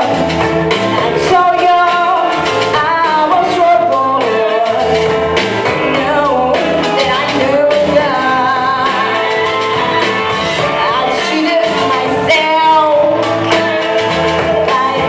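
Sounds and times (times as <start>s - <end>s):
amplified instrumental accompaniment: 0.0s - 15.0s
woman singing into microphone: 1.0s - 15.0s.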